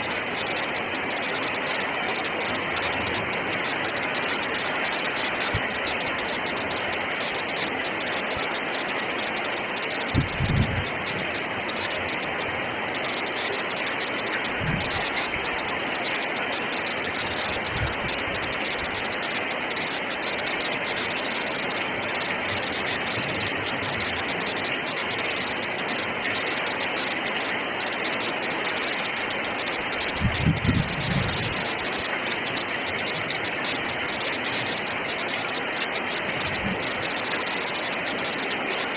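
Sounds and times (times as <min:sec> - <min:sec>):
heavy rain on tile roof: 0:00.0 - 0:38.9.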